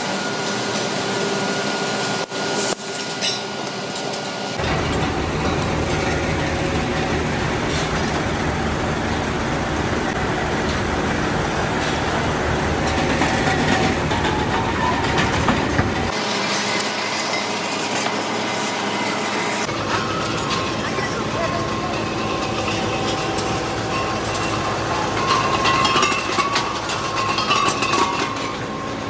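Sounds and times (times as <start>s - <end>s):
rolling mill machinery rumble: 0.0s - 29.0s.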